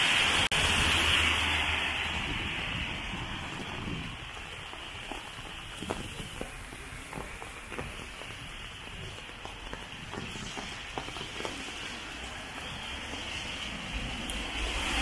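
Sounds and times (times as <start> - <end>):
close drips and splashes: 0.0 - 15.0
heavy rain on pavement: 0.0 - 15.0.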